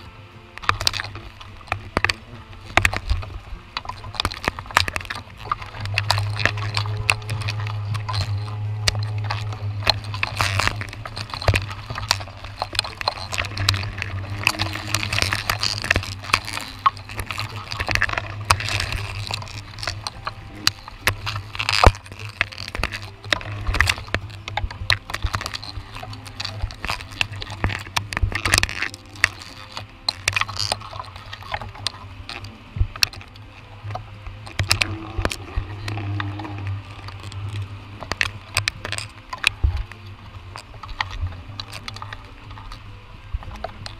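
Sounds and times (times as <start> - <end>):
leaves rustling: 0.0 - 43.9
rain tapping and dripping: 0.0 - 43.9
steady low hum: 0.0 - 43.9.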